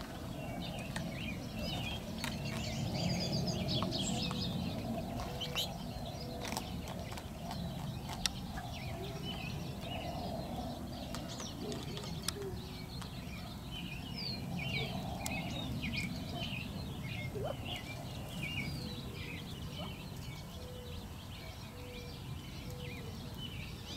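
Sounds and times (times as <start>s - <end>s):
quail chicks peeping: 0.0s - 23.9s.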